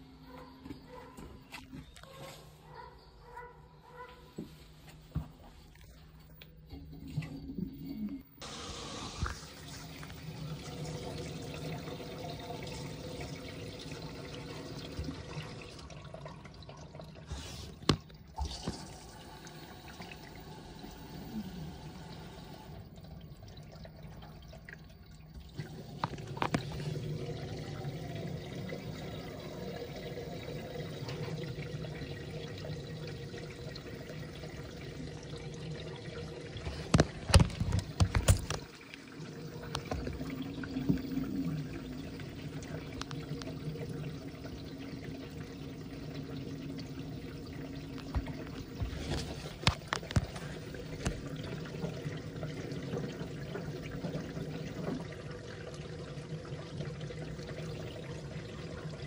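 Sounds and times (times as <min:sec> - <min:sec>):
water sloshing in washing machine: 0:05.0 - 0:59.0.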